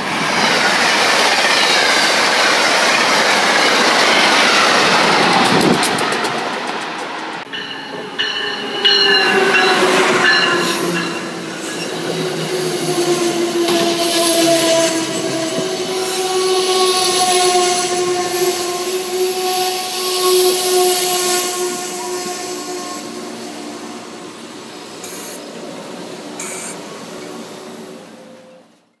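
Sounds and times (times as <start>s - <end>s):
train coaches rolling past: 0.0s - 29.0s.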